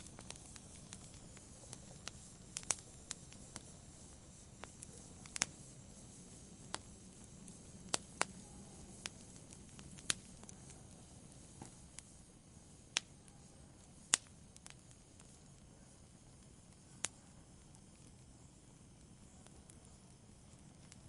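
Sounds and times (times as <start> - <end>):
fire popping: 0.0 - 21.0
soft steady fire hiss: 0.0 - 21.0.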